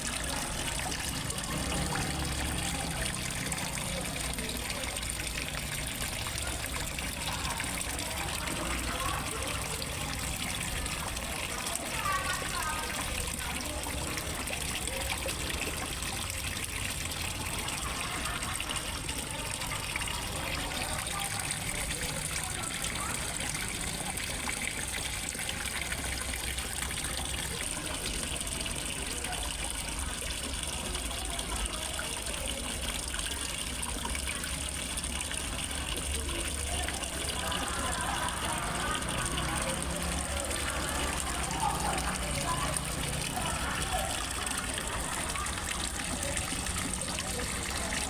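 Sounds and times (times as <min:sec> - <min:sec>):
water trickling into pond: 0:00.0 - 0:48.0.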